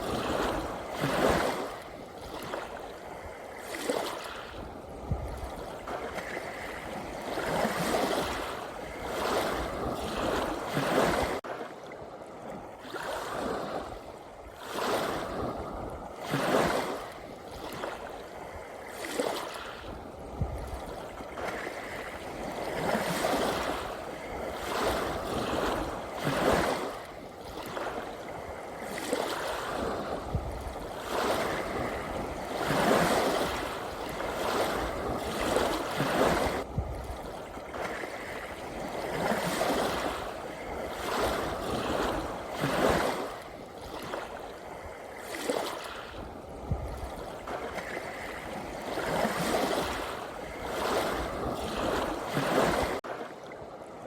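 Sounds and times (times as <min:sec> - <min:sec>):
small sea waves washing in: 0:00.0 - 0:54.0.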